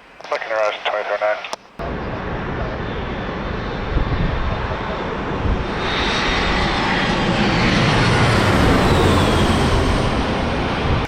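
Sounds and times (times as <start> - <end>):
airliner engine rush: 0.2 - 11.0.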